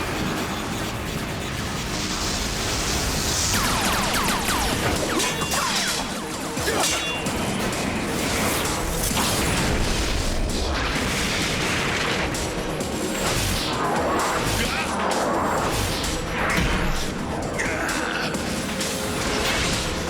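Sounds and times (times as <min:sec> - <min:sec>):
dramatic music: 0:00.0 - 0:20.0.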